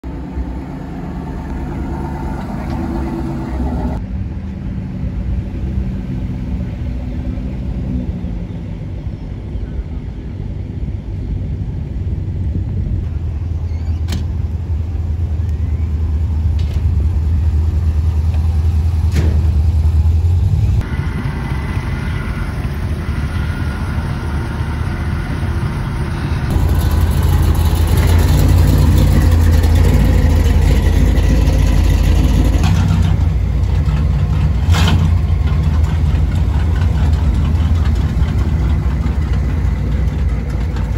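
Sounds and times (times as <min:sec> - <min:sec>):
car engines rumbling past: 0:00.0 - 0:40.9.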